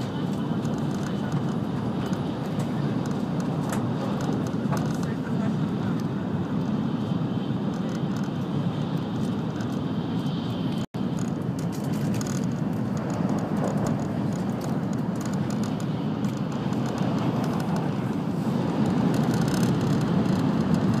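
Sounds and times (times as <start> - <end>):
high-speed train running noise: 0.0 - 21.0.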